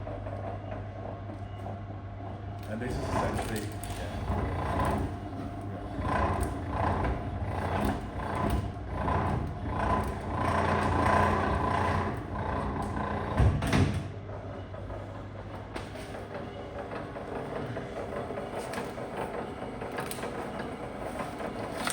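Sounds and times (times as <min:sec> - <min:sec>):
cable stripping machine motor hum: 0:02.5 - 0:21.9.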